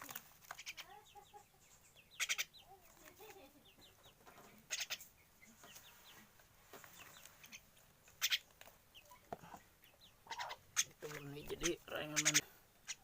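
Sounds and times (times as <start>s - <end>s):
light bird chirping: 0.0s - 13.0s.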